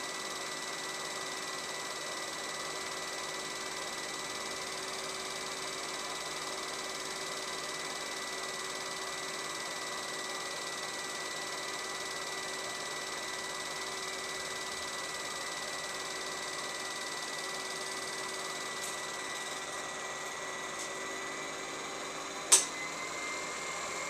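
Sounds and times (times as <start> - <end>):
film projector humming: 0.0 - 24.0.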